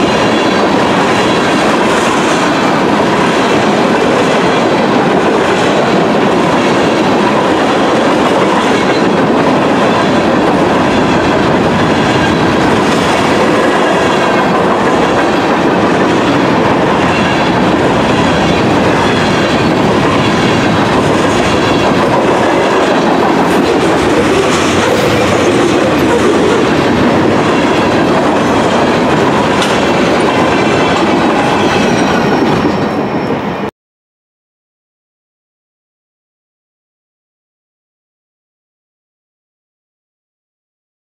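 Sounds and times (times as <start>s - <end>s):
steel wheels clacking over rail joints: 0.0s - 33.3s
freight train rolling past: 0.0s - 33.7s.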